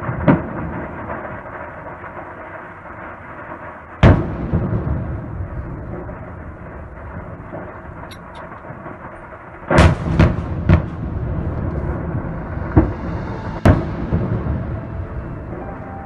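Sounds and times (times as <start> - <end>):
continuous low rumble: 0.0 - 16.0.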